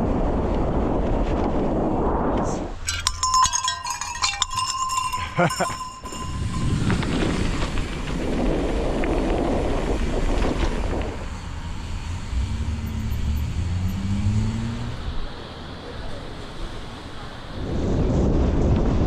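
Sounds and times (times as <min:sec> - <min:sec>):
vehicle engine: 0:02.9 - 0:18.2.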